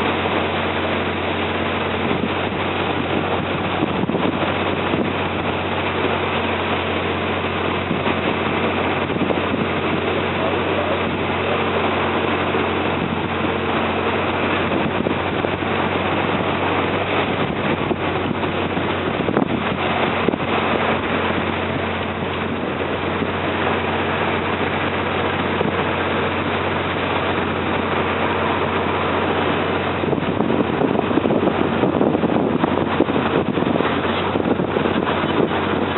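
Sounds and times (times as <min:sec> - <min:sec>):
boat engine running: 0:00.0 - 0:35.9
rushing wind and water: 0:00.0 - 0:35.9.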